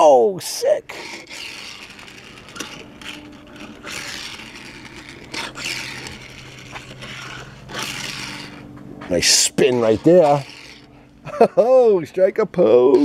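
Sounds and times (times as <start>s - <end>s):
toy car wheels skidding: 0.0s - 11.5s.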